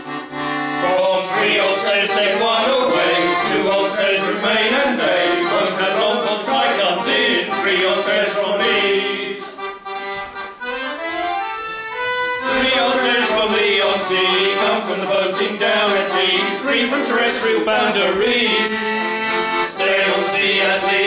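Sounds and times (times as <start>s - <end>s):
accordion playing: 0.0s - 21.0s.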